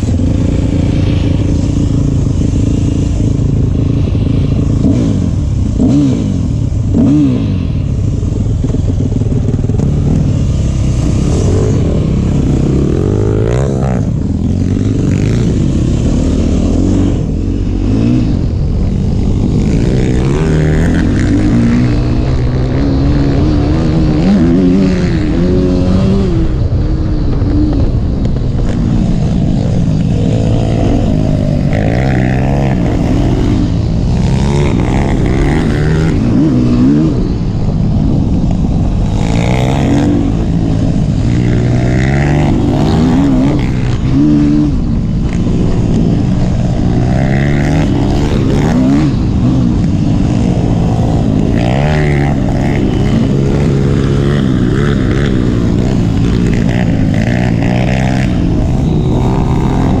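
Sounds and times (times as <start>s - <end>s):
dirt bike engine revving: 0.0s - 27.9s, 28.6s - 60.0s.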